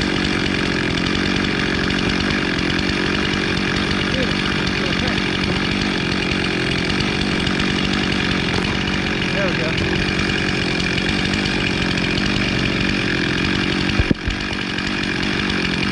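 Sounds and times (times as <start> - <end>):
chainsaw running at full throttle: 0.0 - 15.9.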